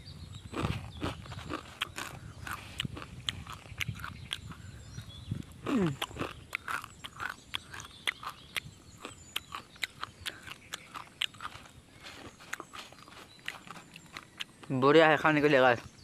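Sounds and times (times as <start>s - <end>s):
person crunching dry noodles: 0.4s - 4.8s, 5.5s - 14.8s.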